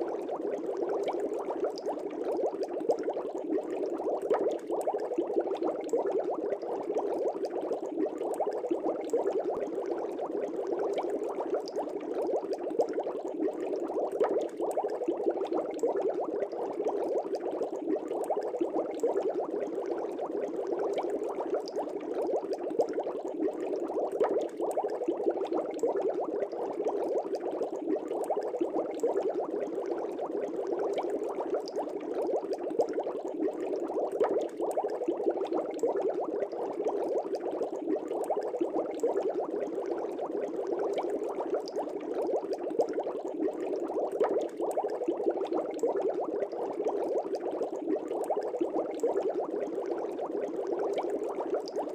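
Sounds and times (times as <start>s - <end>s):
aquarium bubbling: 0.0s - 51.9s.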